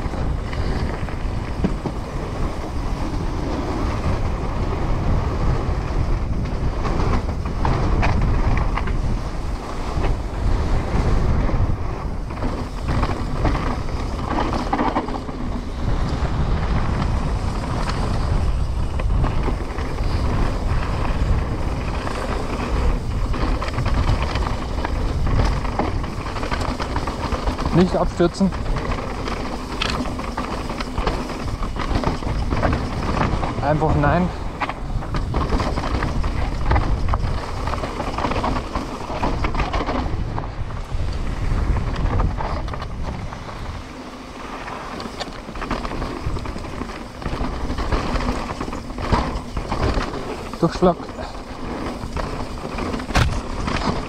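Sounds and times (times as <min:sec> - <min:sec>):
bike clicks and rattles: 0:00.0 - 0:54.0
tyres rolling over dirt and rock: 0:00.0 - 0:54.0
wind rush on microphone: 0:00.0 - 0:54.0.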